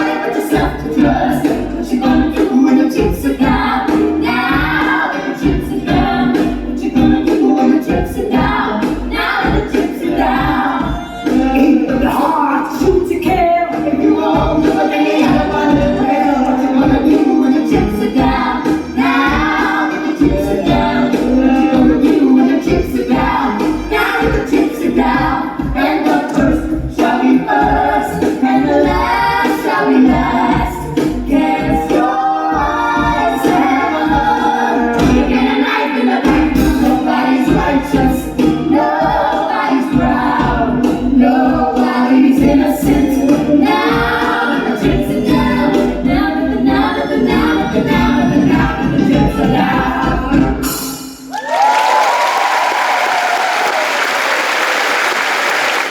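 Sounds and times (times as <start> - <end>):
voices singing in harmony: 0.0 - 51.1.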